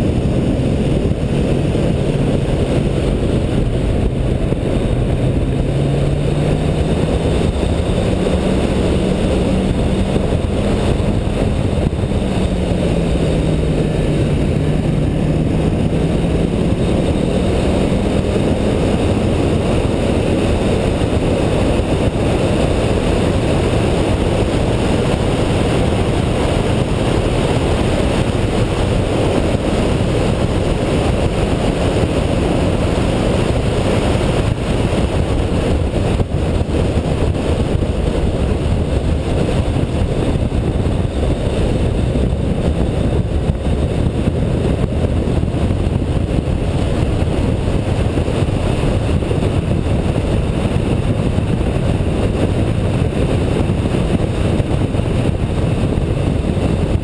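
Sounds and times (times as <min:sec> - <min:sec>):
car engine at speed: 0:00.0 - 0:57.0
wind and road noise: 0:00.0 - 0:57.0.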